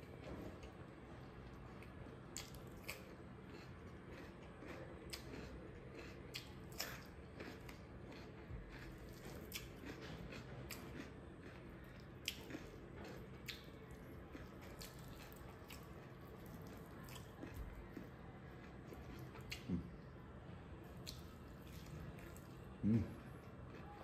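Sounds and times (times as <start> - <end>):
low steady hum: 0.0 - 24.0
person chewing: 1.5 - 20.1, 20.8 - 24.0.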